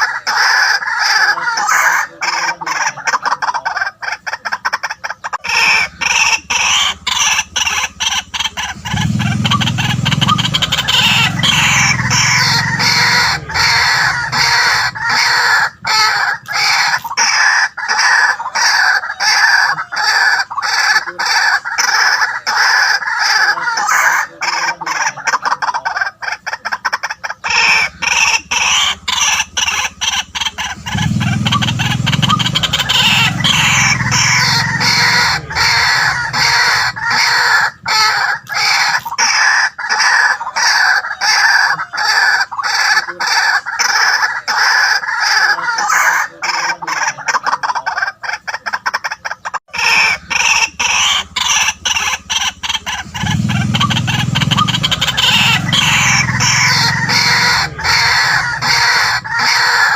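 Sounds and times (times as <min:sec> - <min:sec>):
bird harsh croaking call: 0:00.0 - 0:59.9.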